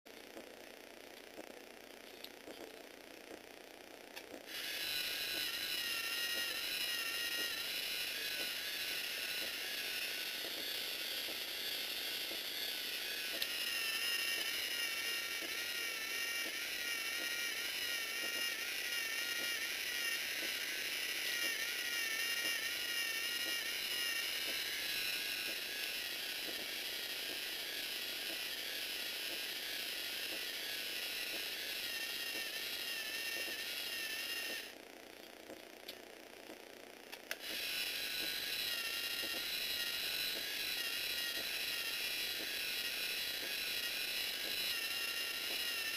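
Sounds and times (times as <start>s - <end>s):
toy gear train whining and rattling: 4.4s - 34.8s, 37.2s - 45.9s.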